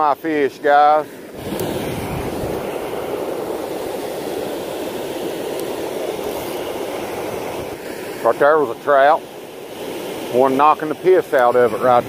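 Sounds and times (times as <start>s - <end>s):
water rushing over dam spillway: 0.0s - 12.0s.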